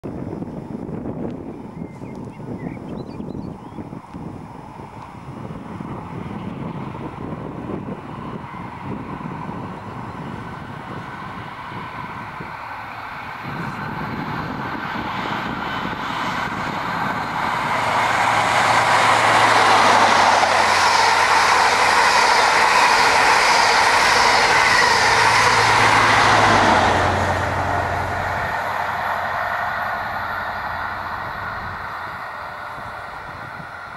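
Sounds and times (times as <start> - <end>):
train engine hum: 0.0 - 33.9
wheels rushing on rails: 0.0 - 33.9.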